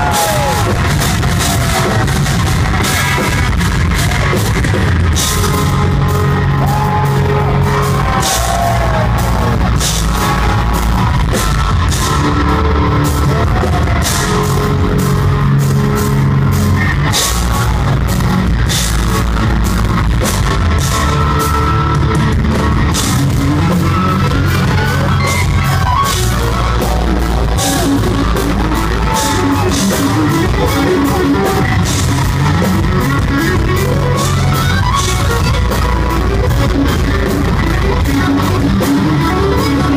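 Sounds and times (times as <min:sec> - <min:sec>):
drum and cymbal hits: 0:00.0 - 0:39.1
live metal band playing: 0:00.0 - 0:39.9.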